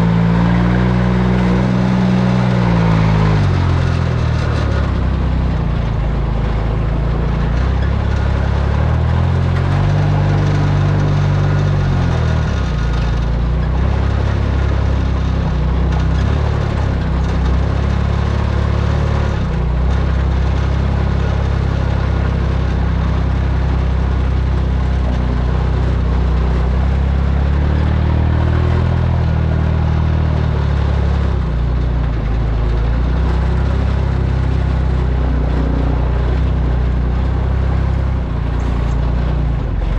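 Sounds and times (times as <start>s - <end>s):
road noise: 0.0s - 39.9s
truck engine driving: 0.0s - 39.9s.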